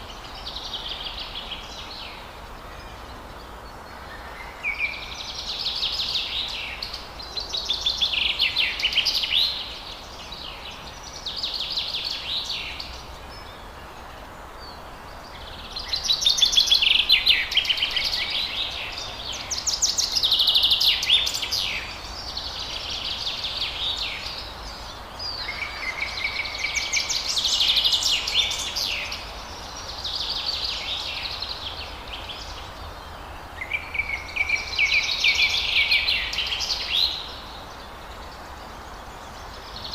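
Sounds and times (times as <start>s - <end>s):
background hiss: 0.0s - 39.9s
forest birds singing: 0.0s - 39.9s.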